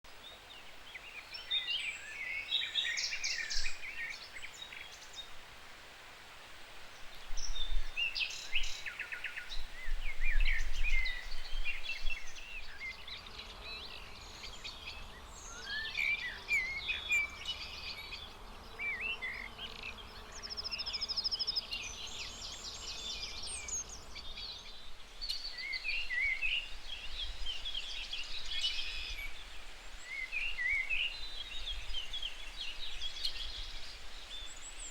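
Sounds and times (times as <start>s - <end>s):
songbirds chirping and singing: 0.1s - 5.4s, 7.0s - 34.9s.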